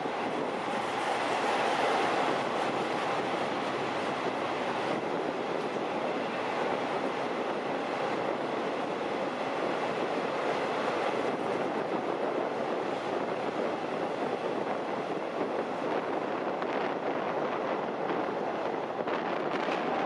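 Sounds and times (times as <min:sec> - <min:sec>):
train wheels rolling on rail: 0:00.0 - 0:20.0.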